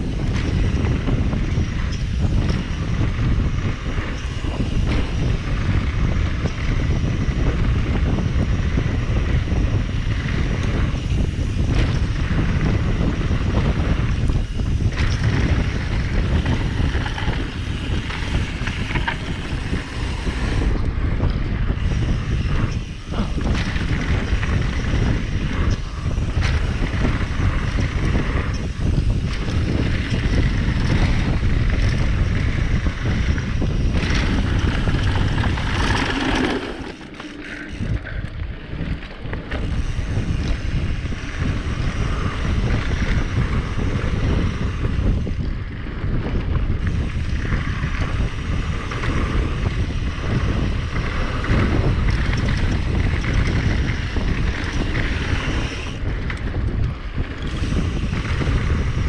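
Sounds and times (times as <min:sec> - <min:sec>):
bike rumbling and rattling on dirt: 0:00.0 - 0:59.0
wind buffeting microphone: 0:00.0 - 0:59.0.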